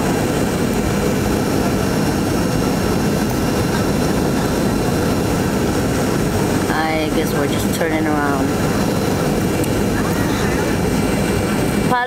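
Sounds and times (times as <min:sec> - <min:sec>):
faint steady whines: 0:00.0 - 0:12.0
jet engines droning: 0:00.0 - 0:12.0
rushing air: 0:00.0 - 0:12.0.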